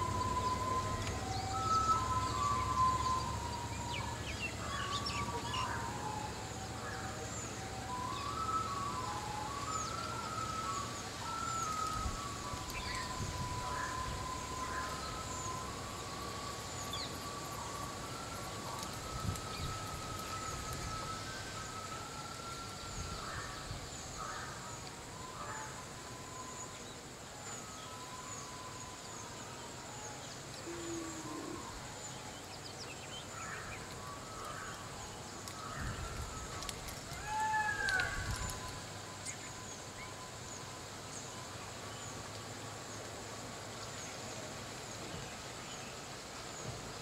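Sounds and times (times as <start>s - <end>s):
thin whistle-like tone: 0.0s - 42.6s
birds chirping: 0.0s - 43.0s.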